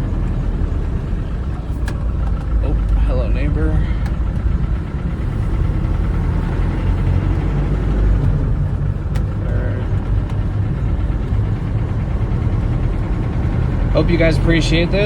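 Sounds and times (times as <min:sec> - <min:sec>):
car engine heard from inside: 0:00.0 - 0:15.0.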